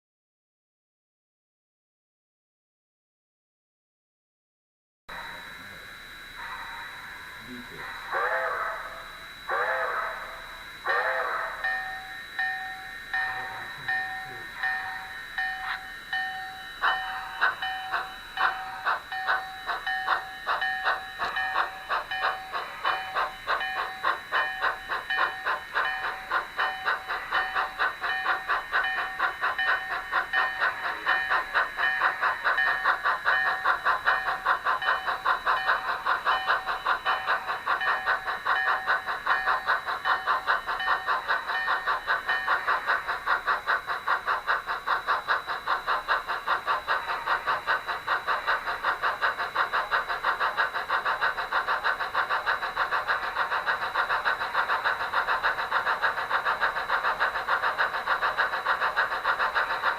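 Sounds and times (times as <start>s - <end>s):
thin whine: 5.1s - 55.8s
model train clicking on track: 7.4s - 59.9s.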